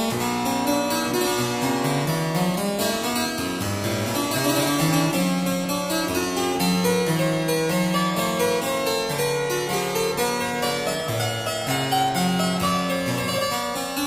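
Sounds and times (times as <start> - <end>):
harpsichord melody: 0.0 - 14.0.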